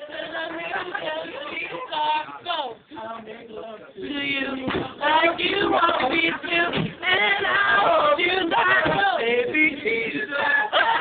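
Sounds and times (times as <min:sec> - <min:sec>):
men and women singing unaccompanied: 0:00.0 - 0:11.0.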